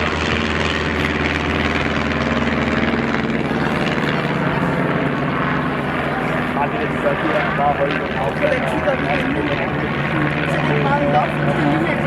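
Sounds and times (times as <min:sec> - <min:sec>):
propeller aircraft engines droning: 0:00.0 - 0:12.0.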